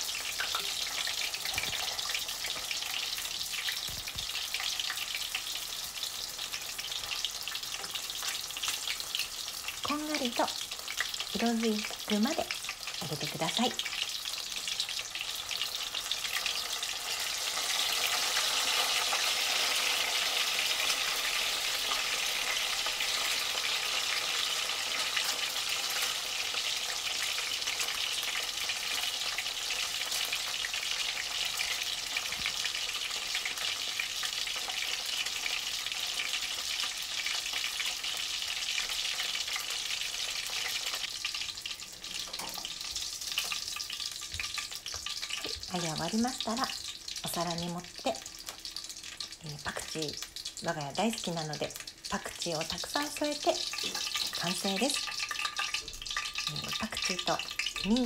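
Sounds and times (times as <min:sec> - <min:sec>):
food deep-frying sizzle: 0:00.0 - 0:58.0.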